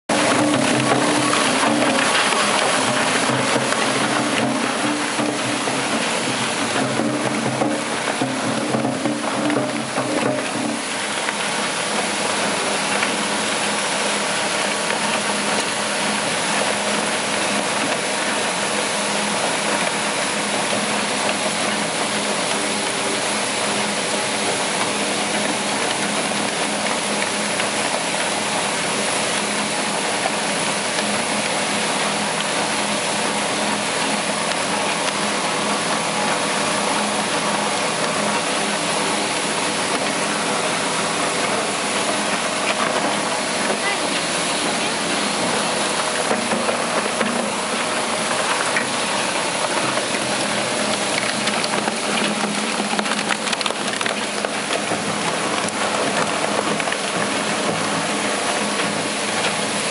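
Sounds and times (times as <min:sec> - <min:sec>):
even mechanical hum: 0:00.1 - 0:59.9
shredder grinding waste: 0:00.1 - 0:59.9.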